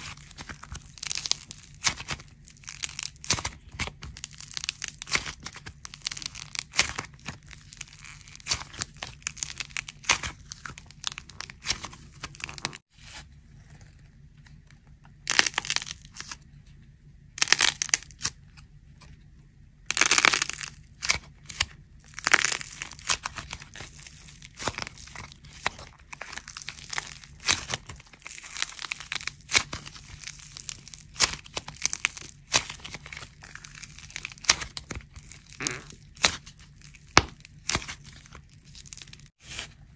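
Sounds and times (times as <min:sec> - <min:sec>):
foil crinkling: 0:00.0 - 0:12.8, 0:19.9 - 0:39.9
clay crackling and crumbling: 0:00.0 - 0:16.5, 0:17.3 - 0:18.4, 0:19.0 - 0:39.9.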